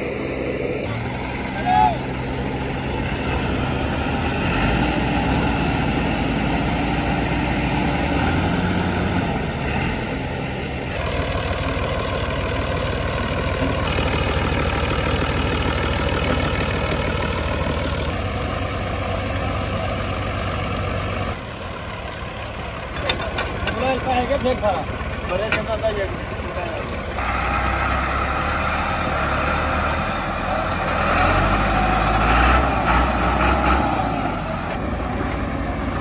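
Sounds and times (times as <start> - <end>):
diesel tractor engines running: 0.0 - 36.0.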